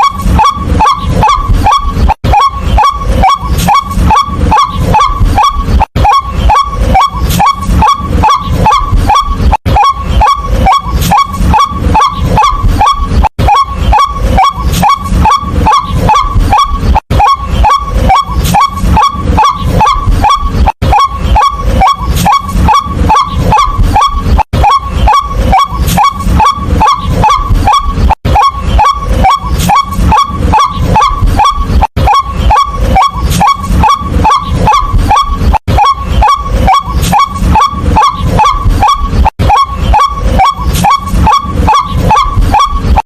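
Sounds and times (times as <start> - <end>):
bird croaking calls: 0.0 - 43.0.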